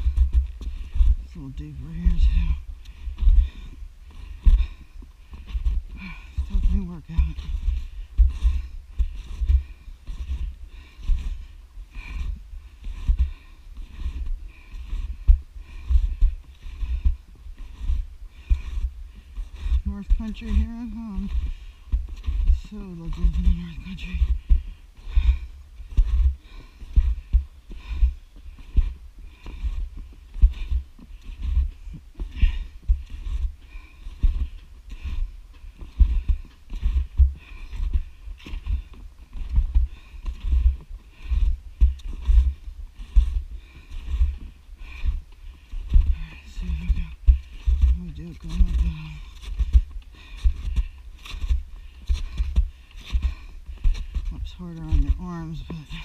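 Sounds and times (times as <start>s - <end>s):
hard breathing: 0.0s - 1.4s, 2.2s - 56.0s
snowshoe steps crunching on snow: 0.0s - 56.0s.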